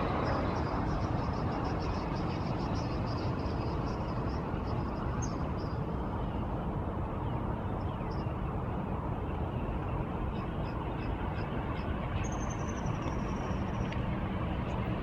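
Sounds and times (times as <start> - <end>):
dull rumble of traffic or wind: 0.0 - 15.0.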